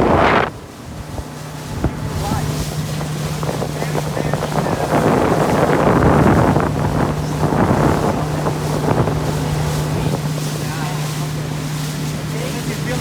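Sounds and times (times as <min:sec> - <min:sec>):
boat engine hum: 0:00.0 - 0:13.0
water rushing past hull: 0:00.0 - 0:13.0
wind buffeting microphone: 0:00.0 - 0:13.0.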